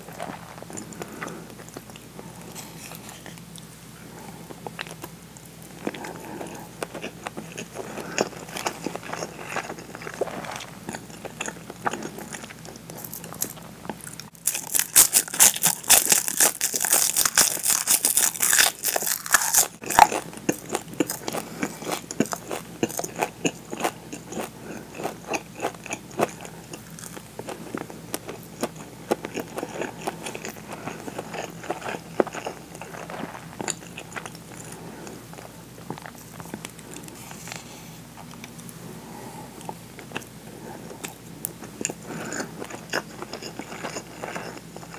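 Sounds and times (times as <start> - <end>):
chewing rice: 0.0 - 38.8, 39.5 - 44.9.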